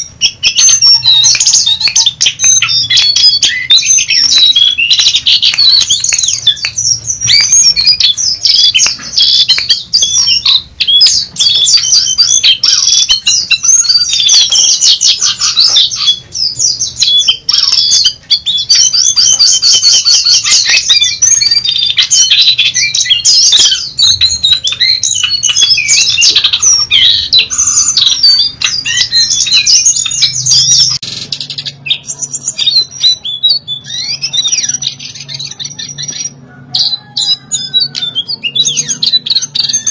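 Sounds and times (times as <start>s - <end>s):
bird singing fast chirps and trills: 0.0s - 39.9s.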